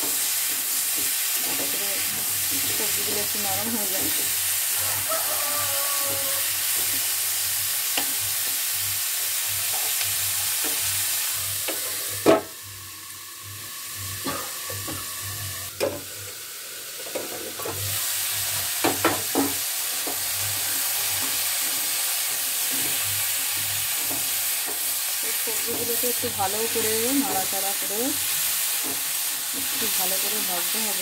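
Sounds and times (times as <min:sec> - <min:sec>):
vegetables sizzling in hot oil: 0:00.0 - 0:31.0.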